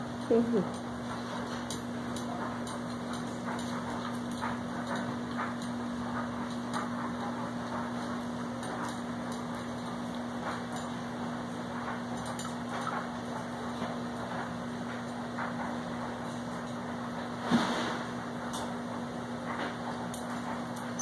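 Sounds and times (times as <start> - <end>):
puppies clicking on wire pen: 0.0 - 17.3, 18.4 - 21.0.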